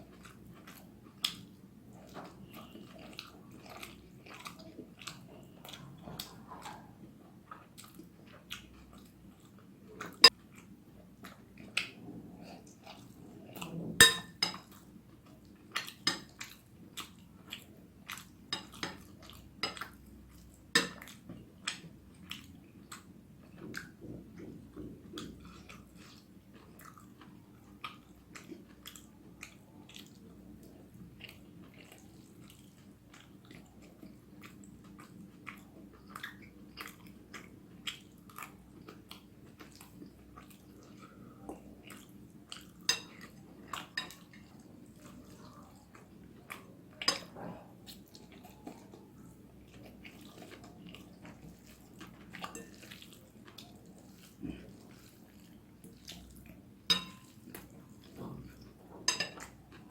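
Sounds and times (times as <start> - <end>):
chewing noodles: 0.0 - 13.8, 14.6 - 59.9
faint steady hum: 0.0 - 59.9.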